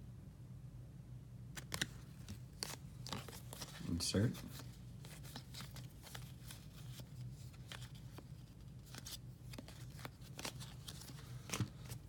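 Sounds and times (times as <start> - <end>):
cards being flipped through: 1.6 - 12.0.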